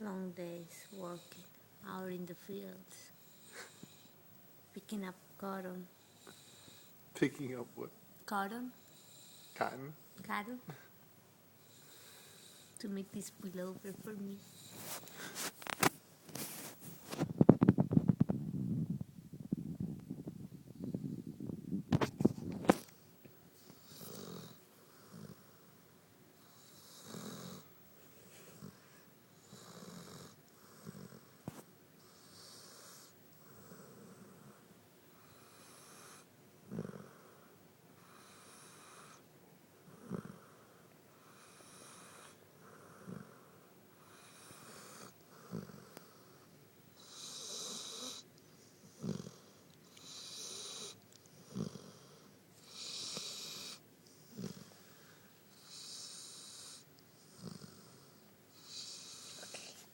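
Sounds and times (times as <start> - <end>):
pet snoring softly: 0.4 - 4.2, 4.8 - 10.9, 11.6 - 18.1, 23.6 - 25.8, 26.4 - 59.9.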